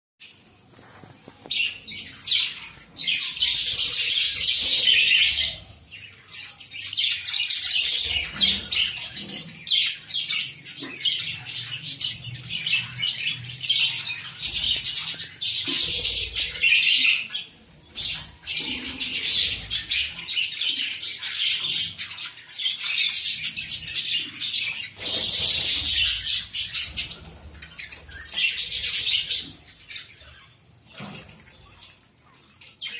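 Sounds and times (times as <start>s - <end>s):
budgerigars chirping and chattering: 0.2s - 32.9s.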